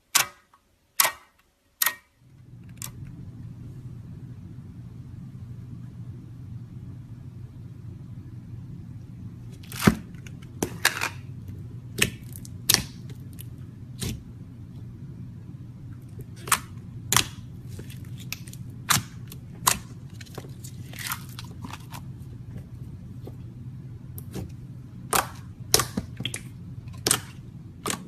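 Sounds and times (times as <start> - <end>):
steady low hum: 2.2 - 28.0.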